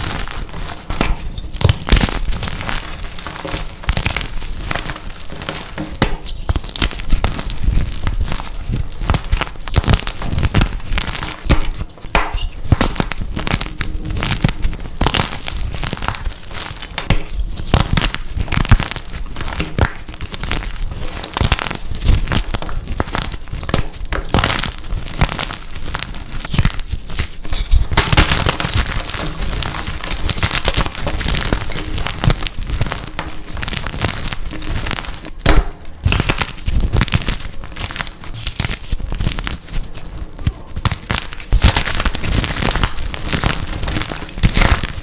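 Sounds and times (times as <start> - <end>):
chalk being crushed: 0.0 - 45.0.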